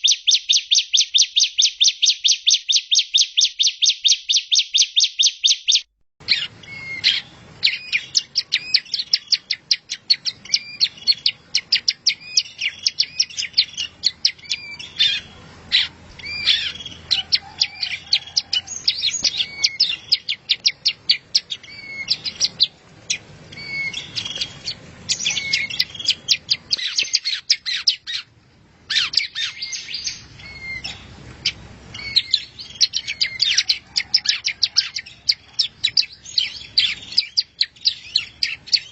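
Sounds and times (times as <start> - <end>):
bird singing chirps and trills: 0.0 - 28.3, 28.9 - 38.9.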